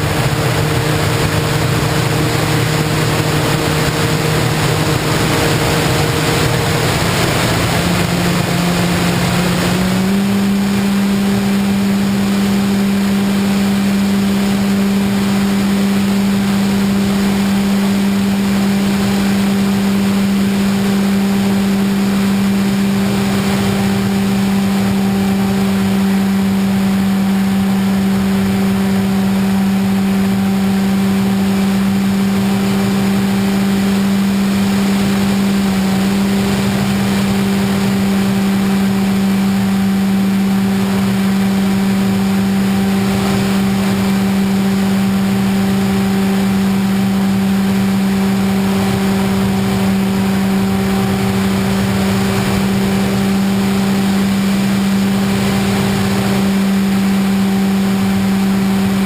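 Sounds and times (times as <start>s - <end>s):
model airplane motor humming: 0.0s - 59.0s.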